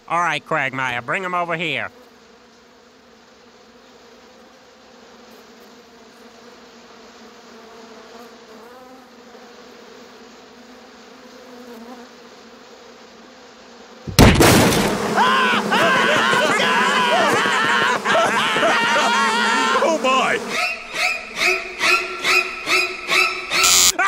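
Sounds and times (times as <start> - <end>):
bees buzzing: 0.9 - 24.0.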